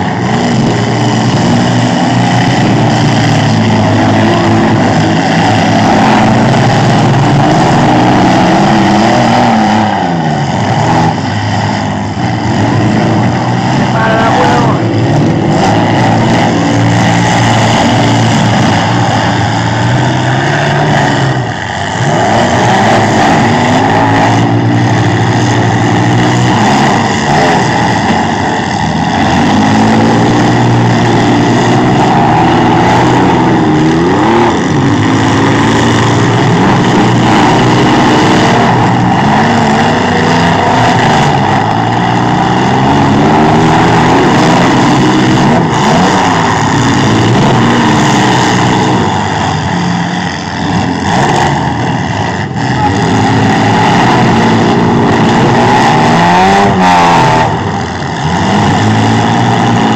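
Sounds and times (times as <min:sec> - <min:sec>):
engines revving: 0:00.0 - 0:59.9.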